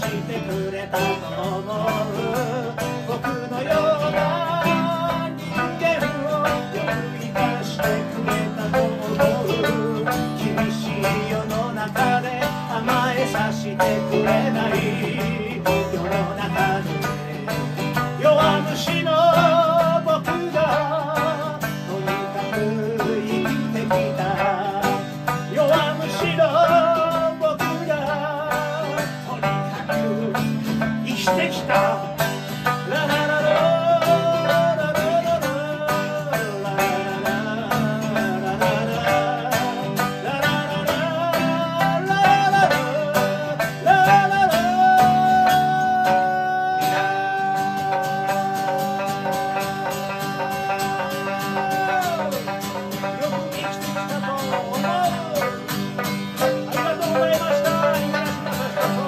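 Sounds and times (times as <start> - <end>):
acoustic guitars strumming: 0.0 - 59.0
person singing: 0.0 - 59.0
sliding melody line: 0.0 - 59.0.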